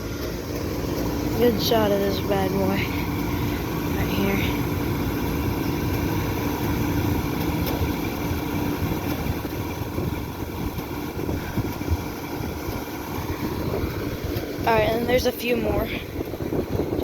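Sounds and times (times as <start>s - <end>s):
compressor hum: 0.0s - 17.0s
condenser fan rushing: 0.0s - 17.0s.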